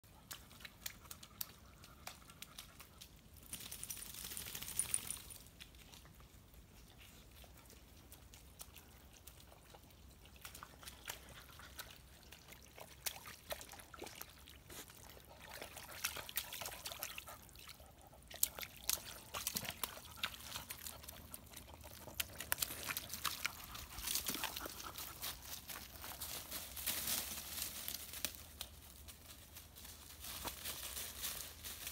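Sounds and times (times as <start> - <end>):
mud and water sloshing: 5.5 - 31.9.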